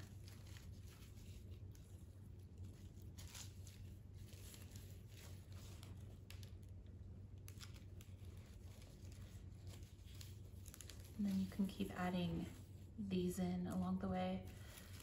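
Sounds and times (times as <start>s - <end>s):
rustling of stems and leaves: 0.0s - 6.7s, 7.4s - 13.0s, 13.7s - 15.0s
low steady hum: 0.0s - 15.0s.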